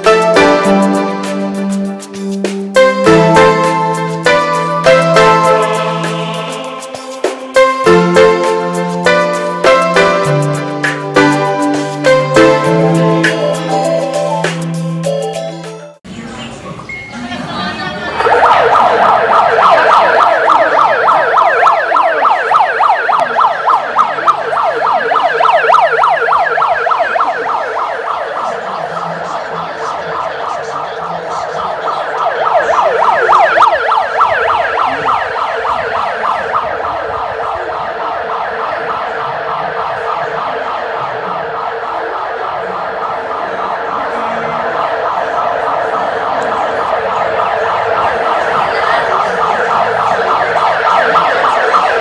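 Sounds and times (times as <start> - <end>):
electronic alarm siren yelping: 0.0 - 14.7, 18.1 - 52.0.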